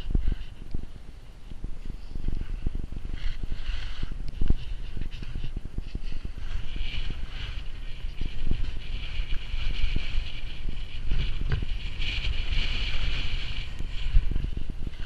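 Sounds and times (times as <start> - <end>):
wind buffeting microphone: 0.0 - 15.0
skis scraping on packed snow: 0.1 - 15.0.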